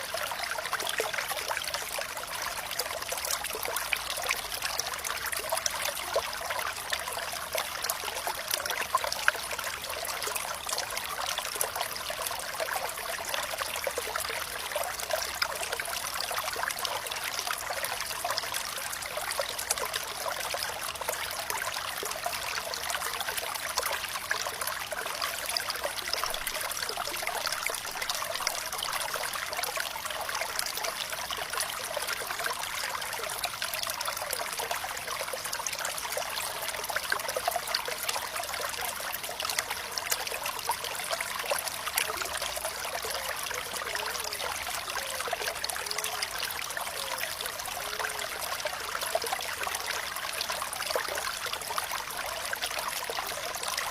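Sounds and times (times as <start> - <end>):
shallow stream trickling: 0.0 - 53.9.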